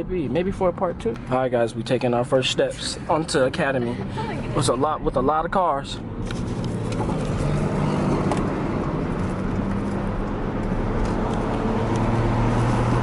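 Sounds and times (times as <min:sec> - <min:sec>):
car engine hum: 0:00.0 - 0:13.0
road noise rushing: 0:00.0 - 0:13.0.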